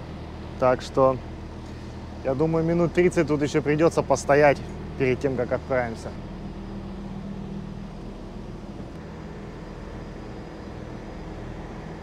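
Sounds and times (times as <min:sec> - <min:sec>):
idling vehicle engines hum: 0:00.0 - 0:12.0.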